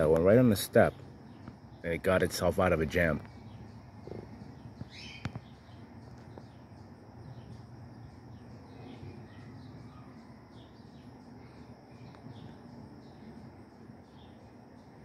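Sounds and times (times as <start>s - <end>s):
faint chirps: 0.0s - 15.0s
high insect drone: 0.0s - 15.0s
rising bird chirp: 0.0s - 15.0s.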